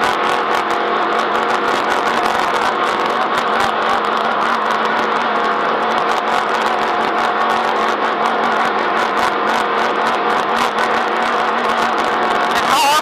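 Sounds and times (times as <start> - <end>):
terrain rumble: 0.0 - 13.0
vehicle engine humming: 0.0 - 13.0.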